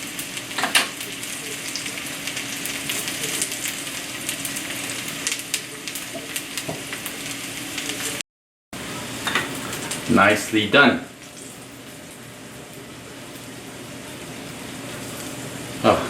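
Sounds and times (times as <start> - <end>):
patties sizzling in hot oil: 0.0 - 8.2, 8.8 - 16.0.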